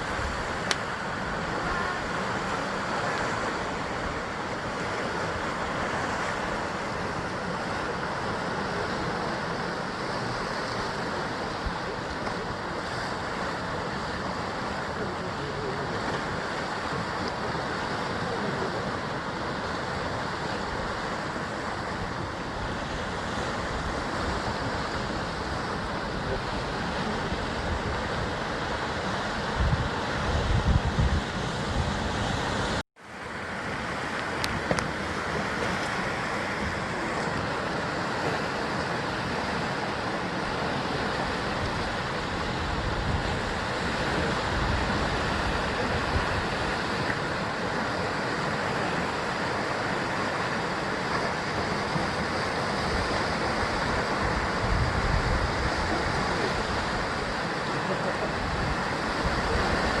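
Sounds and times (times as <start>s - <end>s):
sea waves breaking on rocky shore: 0.0s - 60.0s.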